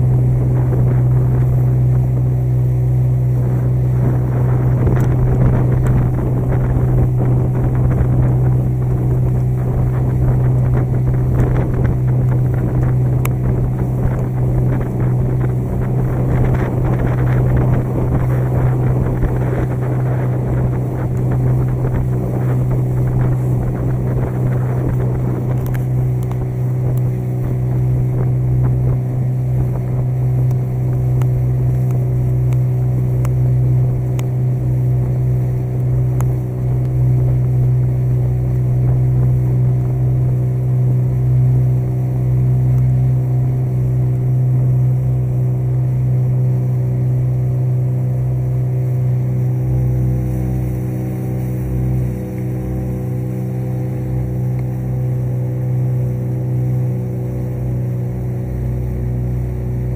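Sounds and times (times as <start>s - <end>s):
motorboat engine droning: 0.0s - 59.9s
water rushing: 0.0s - 59.9s.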